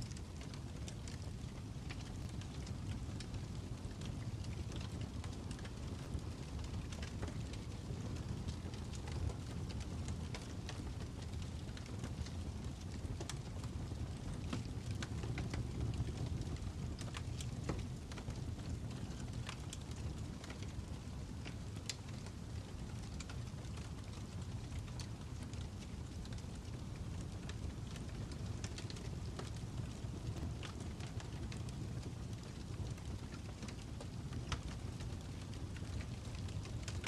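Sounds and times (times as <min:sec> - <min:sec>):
fire crackling and popping: 0:00.0 - 0:37.0
low rumble of burning: 0:00.0 - 0:37.0.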